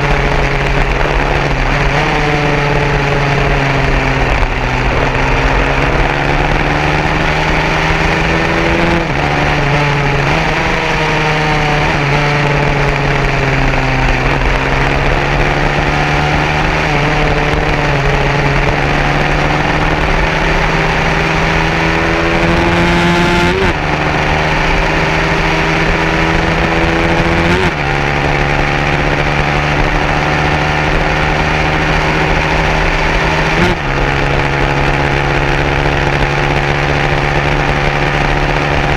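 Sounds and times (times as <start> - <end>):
racing motorcycle engines revving: 0.0 - 38.9.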